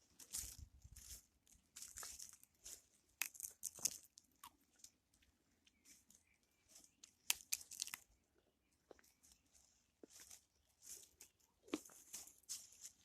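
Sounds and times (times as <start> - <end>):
footsteps crunching on forest ground: 0.0 - 8.1, 8.8 - 13.0.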